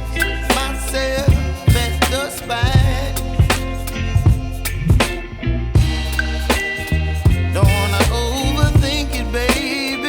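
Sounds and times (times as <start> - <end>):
pop music with drum beat: 0.0 - 10.0.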